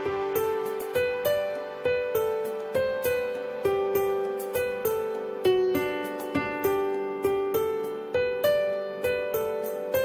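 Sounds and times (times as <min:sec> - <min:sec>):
gentle melody of struck notes: 0:00.0 - 0:10.0.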